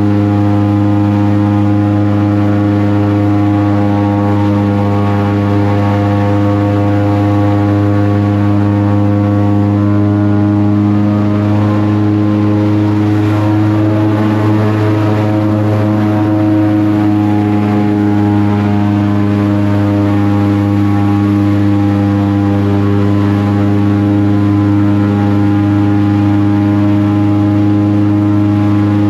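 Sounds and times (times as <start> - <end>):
airboat engine and propeller drone: 0.0 - 29.0.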